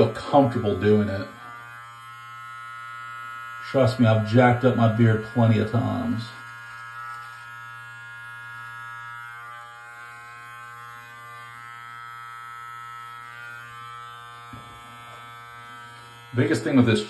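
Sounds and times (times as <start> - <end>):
beard trimmer buzzing: 0.0 - 17.0.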